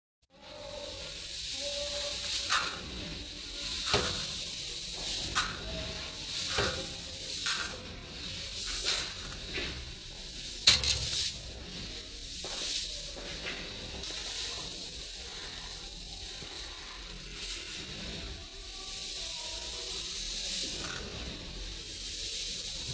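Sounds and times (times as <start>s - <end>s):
rice grains rustling: 0.4s - 22.9s
sharp clicks of grains: 0.4s - 22.9s.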